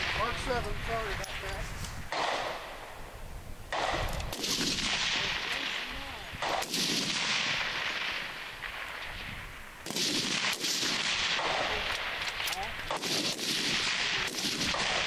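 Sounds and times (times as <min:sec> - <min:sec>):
rifle shots: 0:00.0 - 0:02.9, 0:03.7 - 0:15.0.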